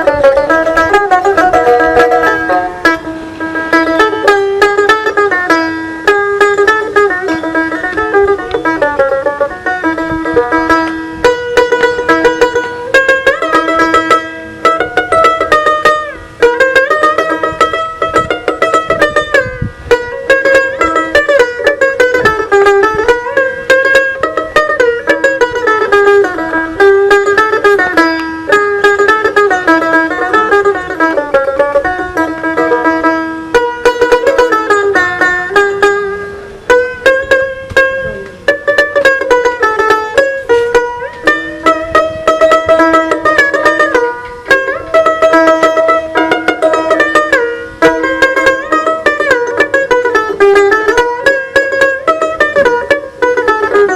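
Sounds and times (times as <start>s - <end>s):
plucked lute melody over drone: 0.0s - 53.9s.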